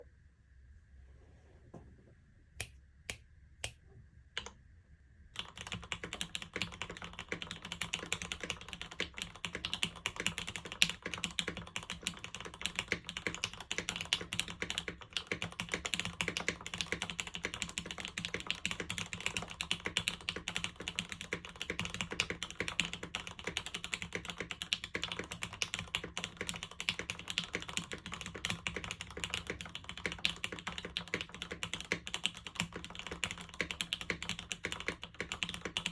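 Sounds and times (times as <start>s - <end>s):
mechanical keyboard typing: 5.4s - 35.9s.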